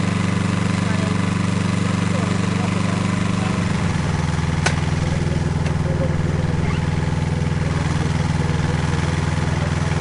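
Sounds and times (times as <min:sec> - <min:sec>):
drilling rig engine idling: 0:00.0 - 0:10.0.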